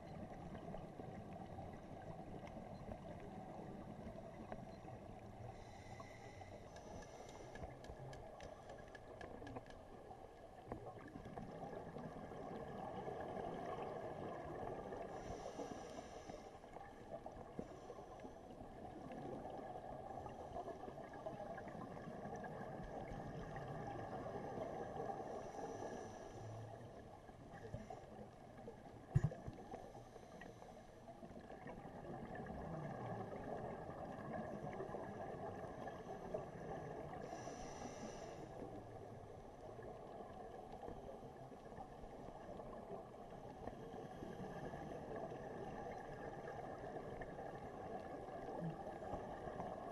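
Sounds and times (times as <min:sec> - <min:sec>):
regulator bubbles underwater: 0:00.0 - 0:49.9.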